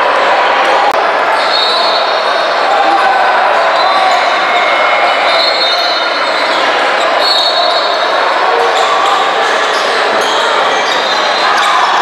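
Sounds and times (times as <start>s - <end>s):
crowd voices and shouting: 0.0s - 12.0s.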